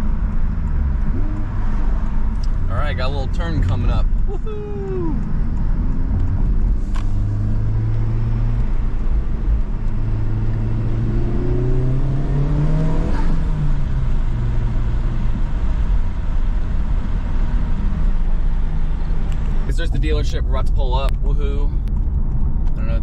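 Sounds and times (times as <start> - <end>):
car engine accelerating: 0.0 - 23.0
road rumble: 0.0 - 23.0.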